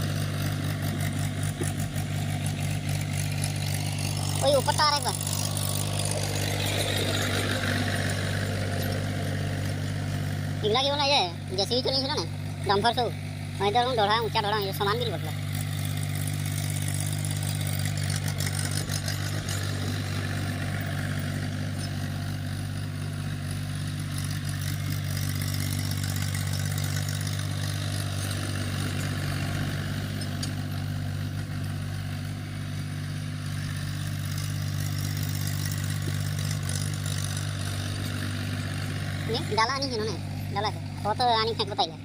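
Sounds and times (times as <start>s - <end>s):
tractor diesel engine droning: 0.0s - 42.0s.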